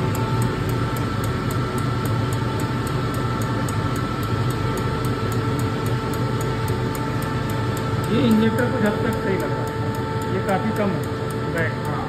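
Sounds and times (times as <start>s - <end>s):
fast even ticking: 0.0s - 12.0s
motor hum: 0.0s - 12.0s.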